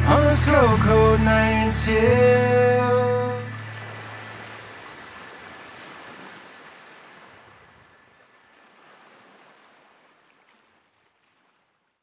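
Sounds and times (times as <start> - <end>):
ocean waves washing: 0.0 - 11.8.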